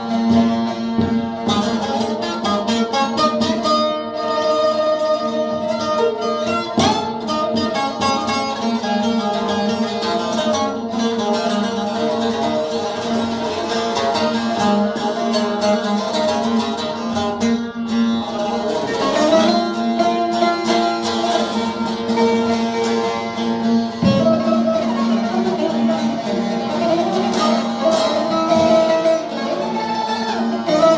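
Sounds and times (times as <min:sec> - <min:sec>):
plucked string instrument music: 0:00.0 - 0:30.9.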